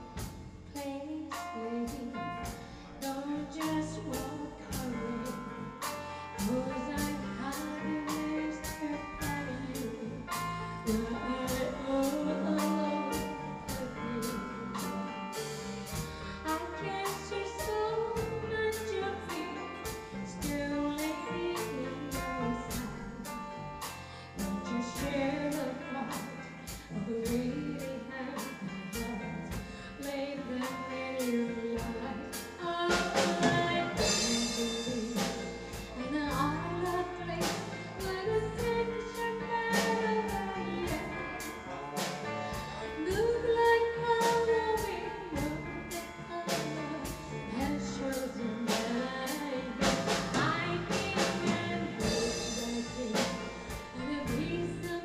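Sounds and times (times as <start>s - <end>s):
drum kit beat: 0.0s - 0.5s, 1.3s - 55.0s
electric bass: 0.0s - 55.0s
woman singing: 0.7s - 55.0s.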